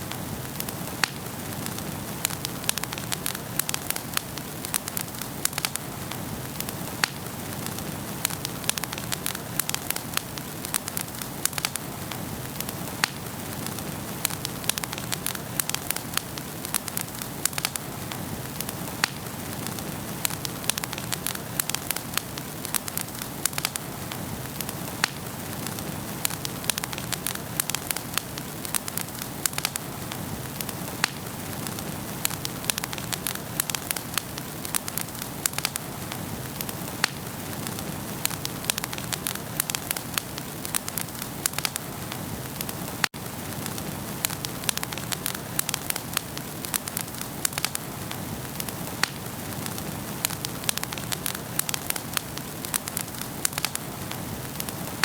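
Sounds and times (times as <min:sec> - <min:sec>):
hiss of flames: 0:00.0 - 0:55.0
wood fire crackling and popping: 0:00.0 - 0:55.0.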